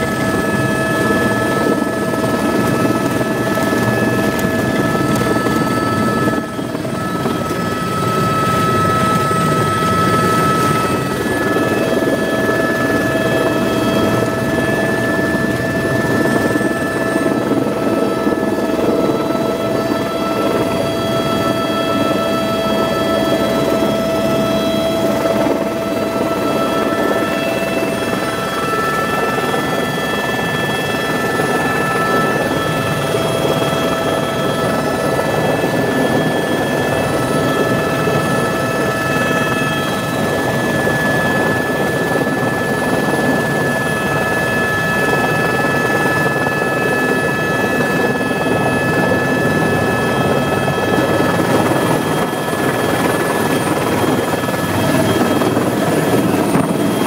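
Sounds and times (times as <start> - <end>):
helicopter rotor and engine rumble: 0.0 - 57.0.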